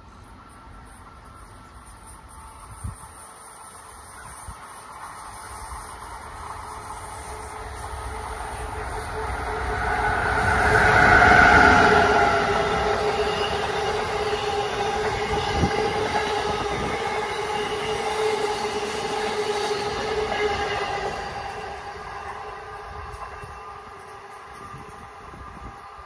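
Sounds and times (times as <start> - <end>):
electric locomotive passing: 0.0 - 26.0
wheels on rail ringing hum: 0.0 - 26.0.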